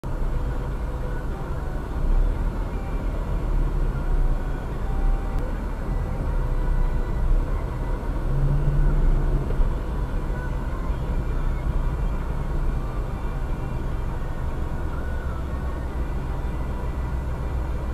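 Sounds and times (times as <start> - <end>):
low rumble of passing vehicles: 0.0 - 17.9.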